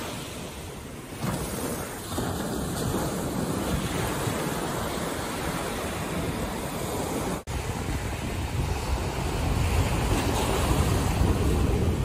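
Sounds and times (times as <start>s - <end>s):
ocean surf on beach: 0.0s - 12.0s
wind rumbling on microphone: 0.0s - 12.0s.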